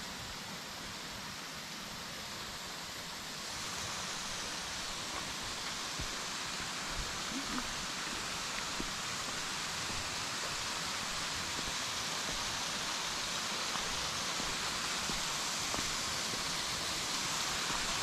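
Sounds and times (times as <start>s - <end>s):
waterfall hiss: 0.0s - 18.0s.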